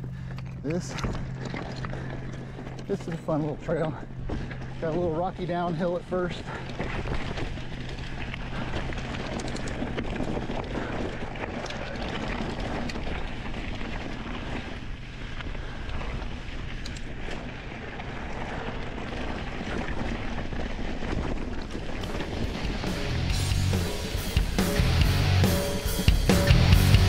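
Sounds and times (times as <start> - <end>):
bike rattling: 0.0 - 27.0
tyres crunching on gravel: 0.0 - 27.0.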